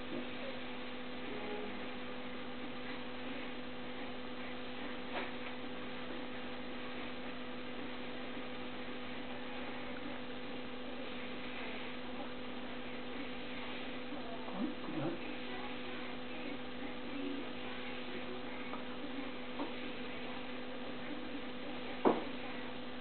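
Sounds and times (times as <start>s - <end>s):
two-tone electrical hum: 0.0s - 23.0s.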